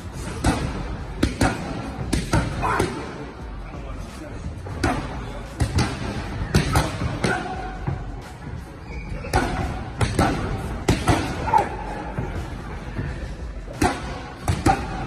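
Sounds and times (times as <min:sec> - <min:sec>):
music playing: 0:00.0 - 0:15.0.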